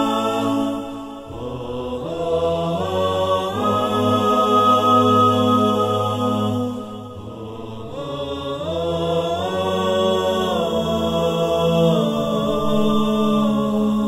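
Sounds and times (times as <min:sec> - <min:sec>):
wordless vocal chant: 0:00.0 - 0:14.0.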